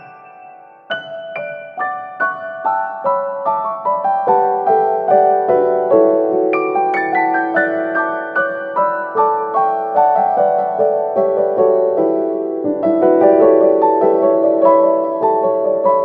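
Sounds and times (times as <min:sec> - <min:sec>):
gentle piano-like keyboard music: 0:00.0 - 0:16.0.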